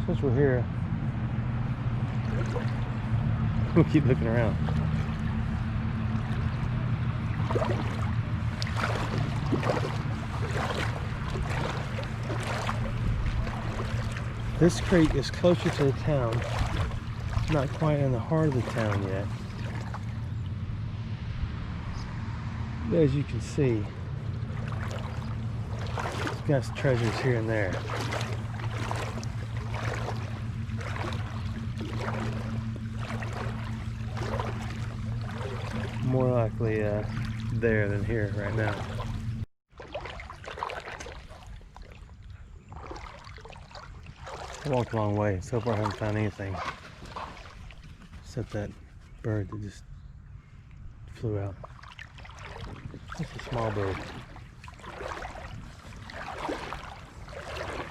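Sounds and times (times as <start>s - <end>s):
steady low rumble: 0.0s - 39.5s, 41.2s - 57.9s
steady low hum: 0.0s - 57.9s
water splashing around boots: 1.6s - 20.6s, 23.2s - 48.8s, 51.2s - 57.9s.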